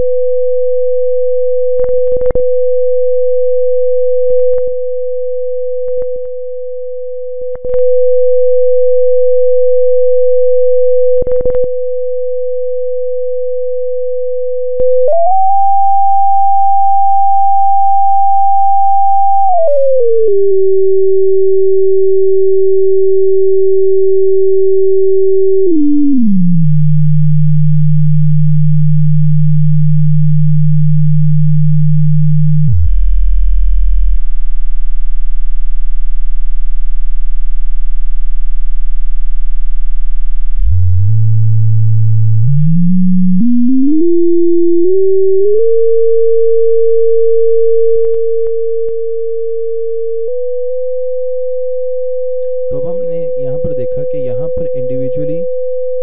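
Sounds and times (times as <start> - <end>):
electronic sine tone: 0.0 - 56.0.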